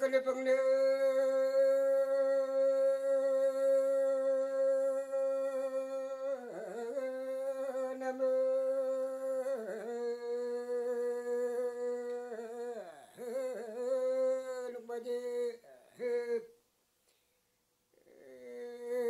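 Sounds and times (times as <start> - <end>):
solo voice chanting: 0.0 - 16.6, 17.9 - 19.0.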